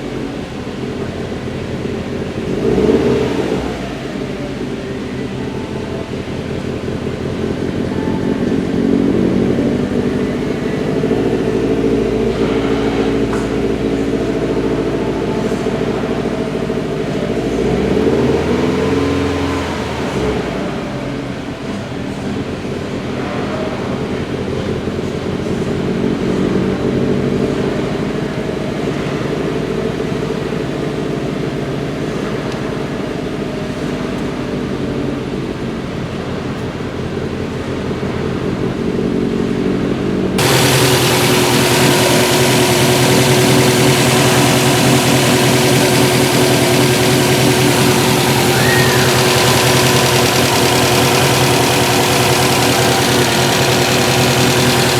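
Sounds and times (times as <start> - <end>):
car engine rough idle: 0.0 - 54.9.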